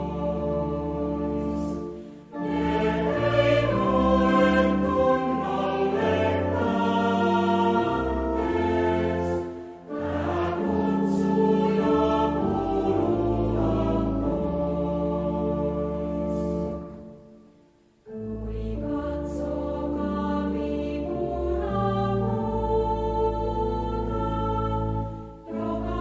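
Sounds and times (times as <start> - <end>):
choir singing a hymn: 0.0 - 17.4, 18.0 - 26.0.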